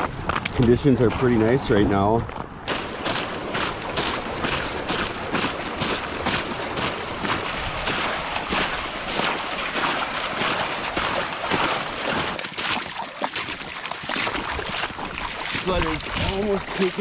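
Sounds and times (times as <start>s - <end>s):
footsteps splashing through slush: 2.3s - 17.0s.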